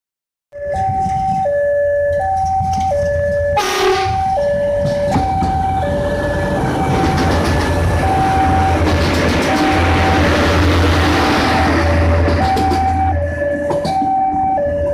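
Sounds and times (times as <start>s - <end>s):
diesel engine rumble: 0.6s - 14.9s
two-tone warning signal: 0.6s - 14.9s.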